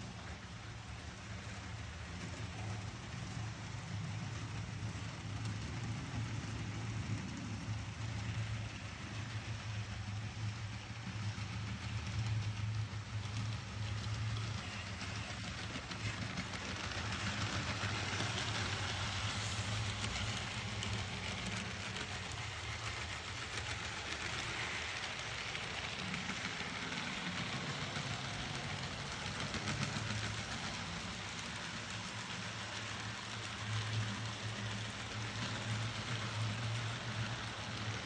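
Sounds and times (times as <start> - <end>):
wheels rolling on rails: 0.0 - 38.0.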